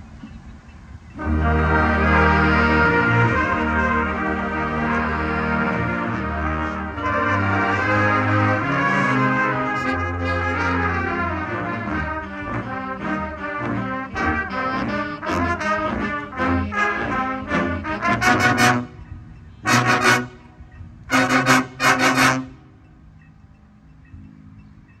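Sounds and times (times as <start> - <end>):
marching band playing: 1.2 - 22.8
short loud band chords: 1.2 - 22.8.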